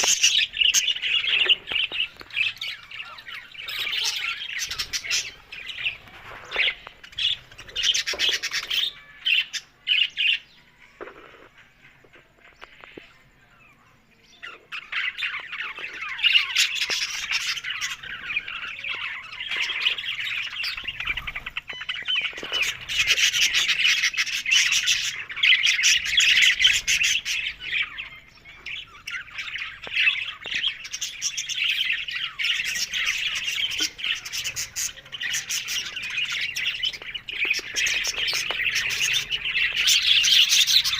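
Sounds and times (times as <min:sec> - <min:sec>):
budgerigars chattering: 0:00.0 - 0:10.4, 0:14.4 - 0:40.9.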